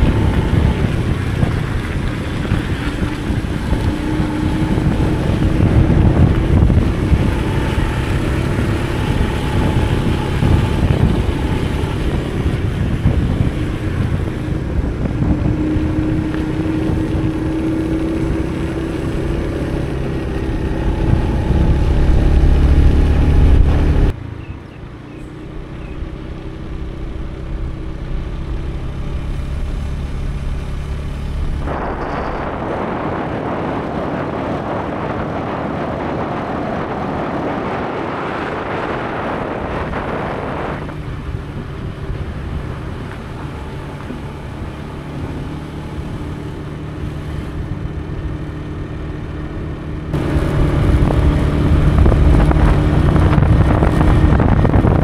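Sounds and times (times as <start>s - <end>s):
small motorcycle engine: 0.0s - 55.0s
wind rumbling on microphone: 0.0s - 55.0s.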